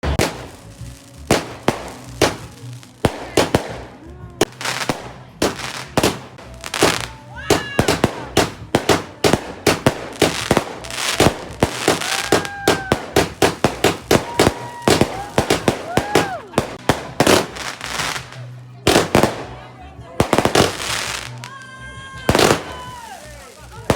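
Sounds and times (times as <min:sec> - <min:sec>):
fireworks whistling: 0:00.0 - 0:19.6, 0:20.2 - 0:23.9
fireworks banging and crackling: 0:00.0 - 0:23.9.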